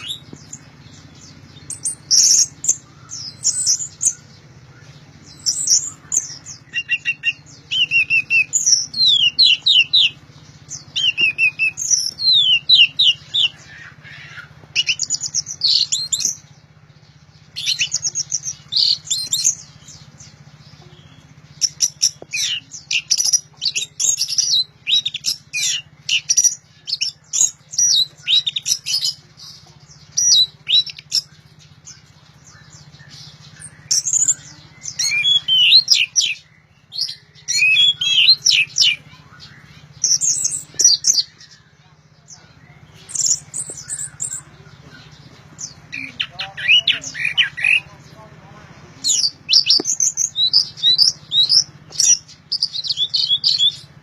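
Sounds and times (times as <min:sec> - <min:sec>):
thrush singing: 0:00.0 - 0:54.0.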